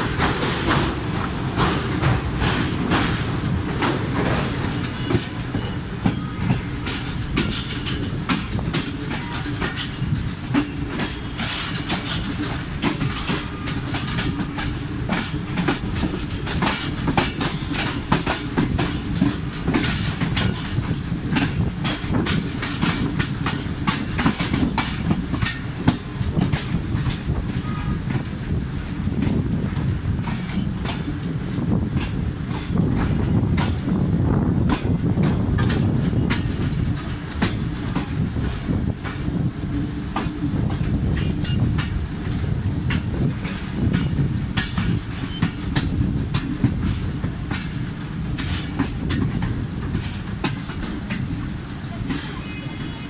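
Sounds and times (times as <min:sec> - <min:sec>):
train low rumble: 0:00.0 - 0:53.0
wheels clattering over rails: 0:00.0 - 0:53.0.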